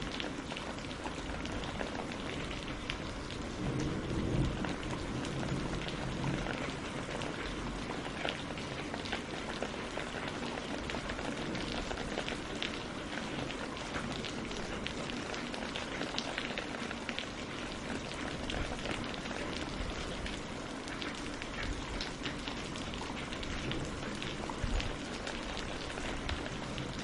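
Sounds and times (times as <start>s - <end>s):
rain falling on leaves and water: 0.0s - 27.0s.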